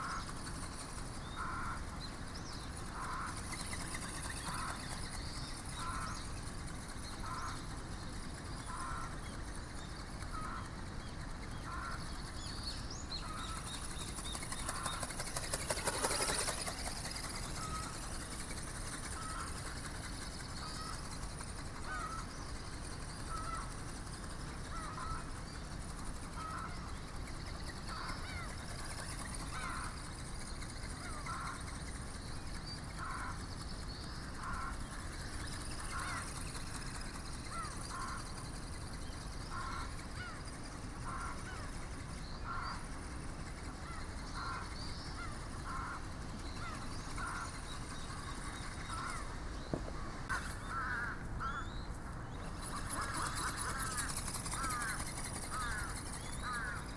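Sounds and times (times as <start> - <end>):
flapping wings fluttering clatter: 0.0 - 56.9.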